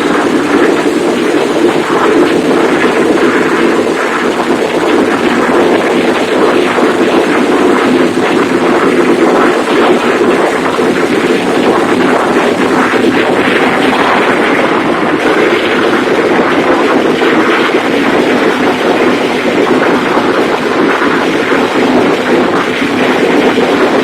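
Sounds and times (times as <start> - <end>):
large engine running steadily: 0.0 - 24.0.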